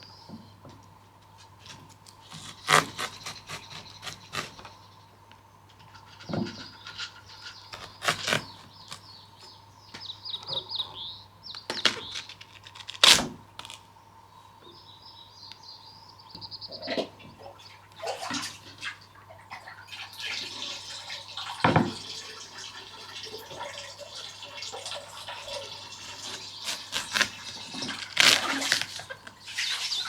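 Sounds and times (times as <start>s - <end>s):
small birds chirping: 0.0s - 18.1s, 23.4s - 30.0s.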